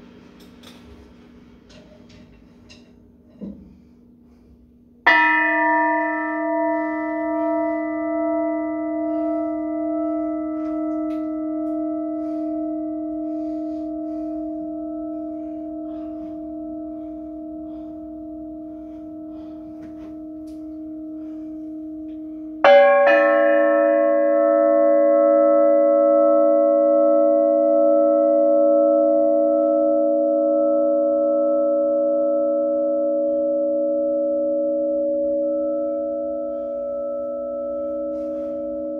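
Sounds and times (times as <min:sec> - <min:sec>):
struck metal bell ringing: 0:05.0 - 0:38.9.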